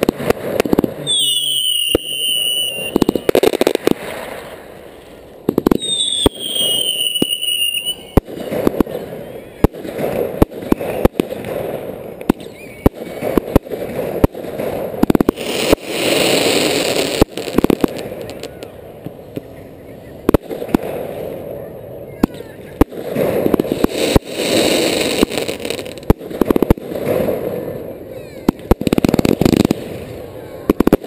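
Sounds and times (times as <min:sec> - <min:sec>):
whistling firework: 0:00.0 - 0:04.8, 0:05.5 - 0:18.8, 0:19.8 - 0:31.0
fireworks bangs: 0:00.0 - 0:19.6, 0:20.2 - 0:31.0
crackling hiss: 0:00.0 - 0:31.0.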